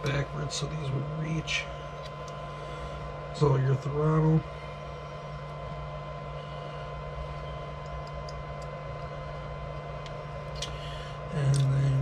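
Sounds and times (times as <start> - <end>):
low room hum: 0.0 - 12.0
thin constant tone: 0.0 - 12.0.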